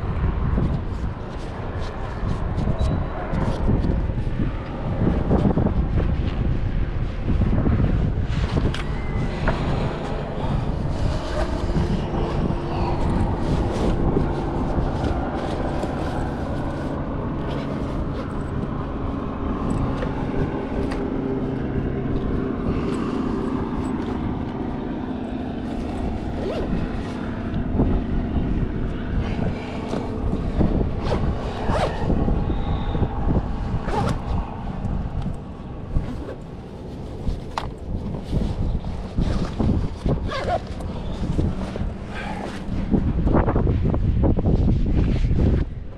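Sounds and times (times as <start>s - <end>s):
engine hums: 0.0s - 45.9s
passing traffic: 0.0s - 45.9s
wind on microphone: 0.0s - 45.9s.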